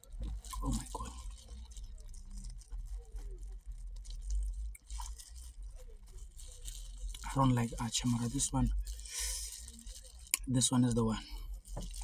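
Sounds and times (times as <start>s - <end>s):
chewing with soft crunching: 0.0s - 12.0s
steady low hum: 0.0s - 12.0s.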